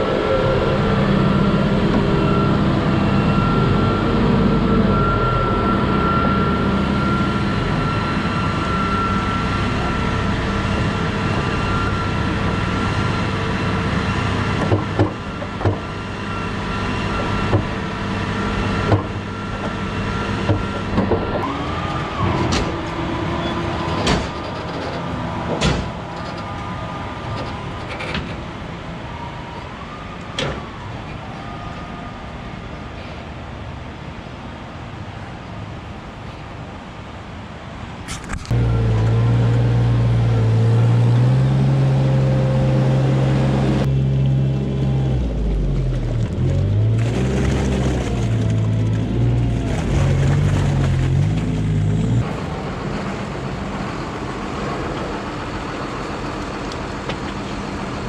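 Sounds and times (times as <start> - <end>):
diesel engine running: 0.0 - 29.2, 38.2 - 58.0.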